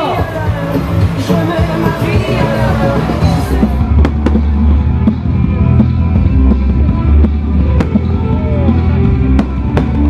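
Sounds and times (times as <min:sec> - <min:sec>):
music with heavy bass beat: 0:00.0 - 0:10.0.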